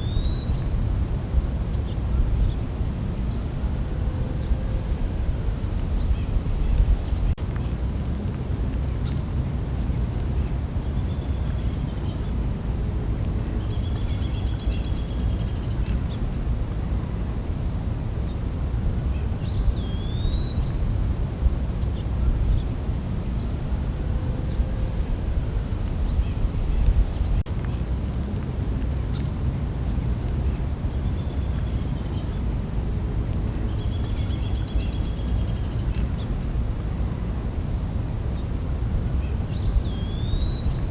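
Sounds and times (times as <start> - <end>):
cricket chirping: 0.0 - 40.9
high insect drone: 0.0 - 40.9.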